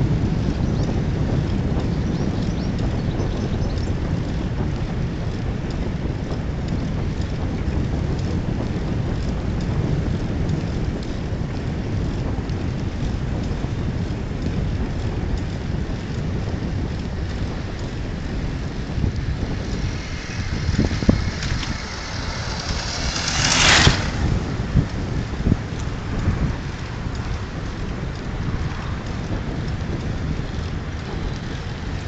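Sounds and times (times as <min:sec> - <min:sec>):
bicycle tyre noise on asphalt: 0:00.0 - 0:32.0
wind buffeting microphone: 0:00.0 - 0:32.0.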